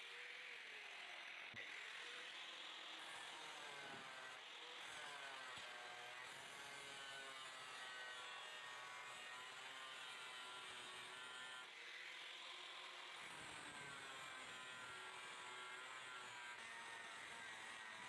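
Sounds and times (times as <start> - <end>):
angle grinder cutting steel: 0.0 - 18.0.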